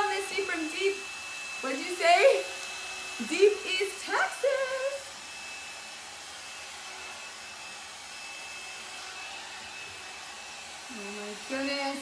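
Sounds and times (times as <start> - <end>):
hot-air brush blowing: 0.0 - 12.0.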